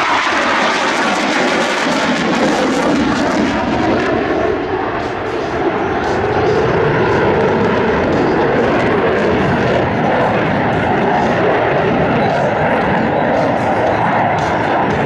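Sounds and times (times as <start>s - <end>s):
aircraft engine noise: 0.0s - 15.0s.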